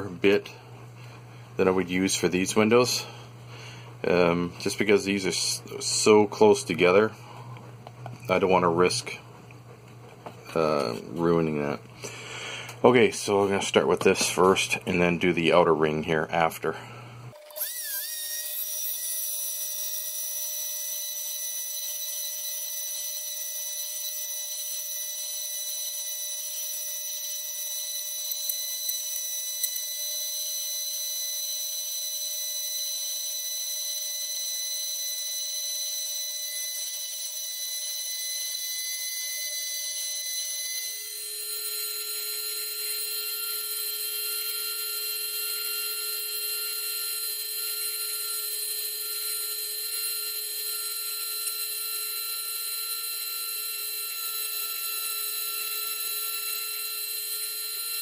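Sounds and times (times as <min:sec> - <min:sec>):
electric drill high whine: 0:00.0 - 0:07.4, 0:17.3 - 0:58.0.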